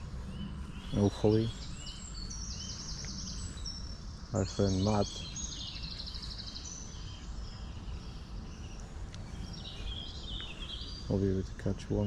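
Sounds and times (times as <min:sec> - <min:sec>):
low background rumble: 0:00.0 - 0:12.0
small birds trilling: 0:00.0 - 0:12.0.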